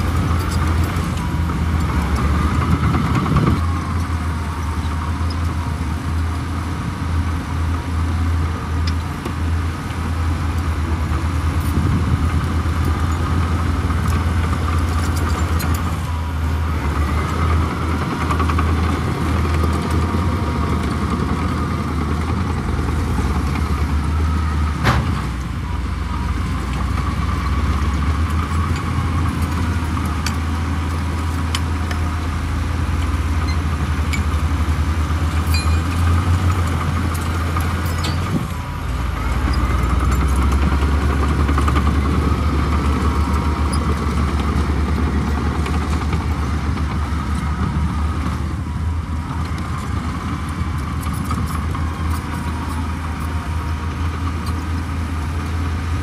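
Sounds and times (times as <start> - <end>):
heavy machine diesel engine drone: 0.0 - 56.0.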